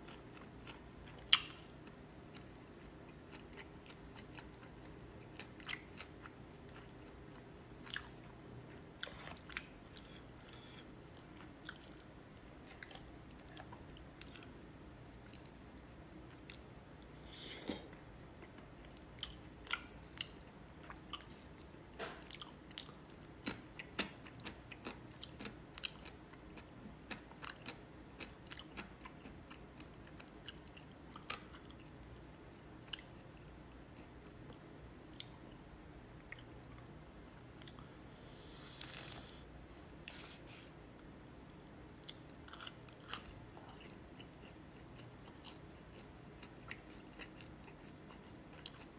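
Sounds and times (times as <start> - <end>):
faint low hum: 0.0 - 48.9
person chewing food: 0.0 - 48.9.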